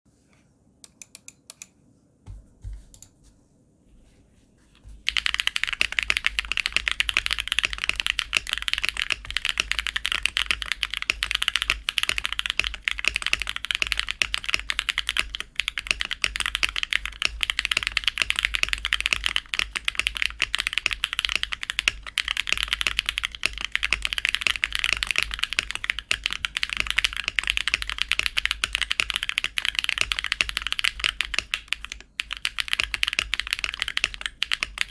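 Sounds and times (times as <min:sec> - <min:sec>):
typing on mechanical keyboard: 0:05.1 - 0:34.9.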